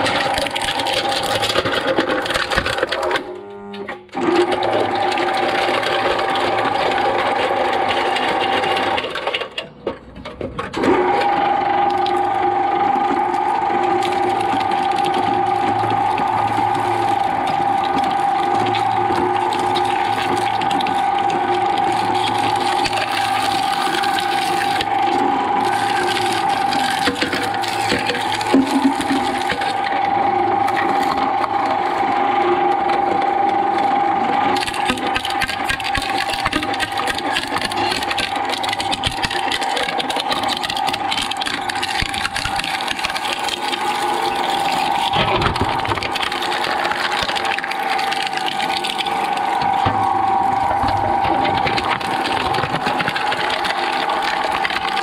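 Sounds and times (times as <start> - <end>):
shredder high whine: 10.8 - 55.0.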